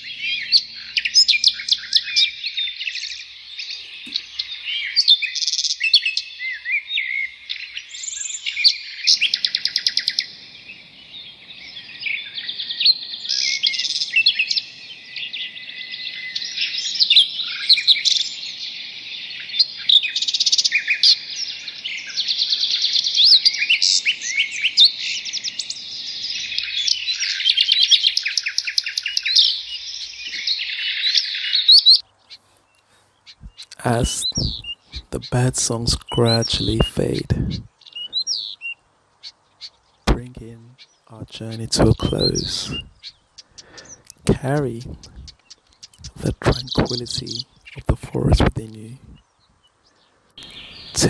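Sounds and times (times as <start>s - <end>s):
songbird chorus: 0.0s - 35.0s, 35.8s - 47.8s, 48.4s - 51.0s.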